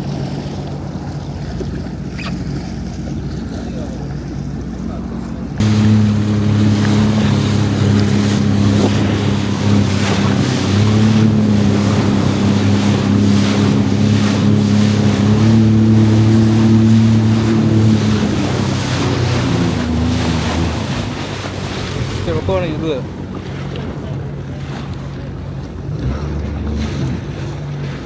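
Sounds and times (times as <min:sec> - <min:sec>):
jet ski engine running: 0:00.0 - 0:28.0
wind buffeting microphone: 0:00.0 - 0:28.0.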